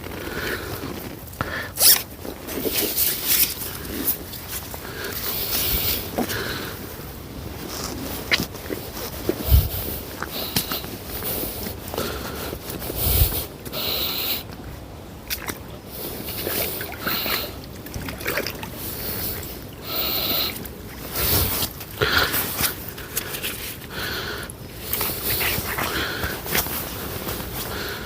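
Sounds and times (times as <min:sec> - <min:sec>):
water sloshing and splashing: 0:00.0 - 0:13.6, 0:14.5 - 0:28.0.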